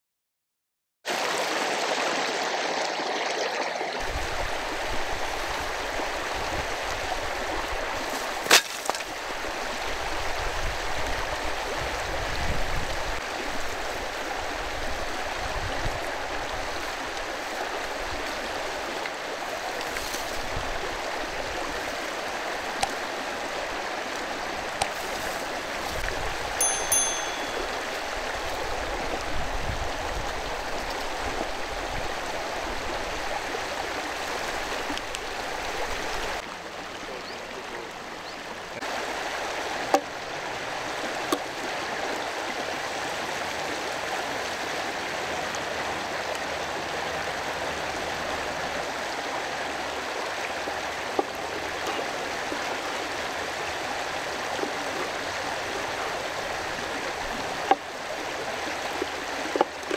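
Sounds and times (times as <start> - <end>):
river running: 1.1 - 59.9.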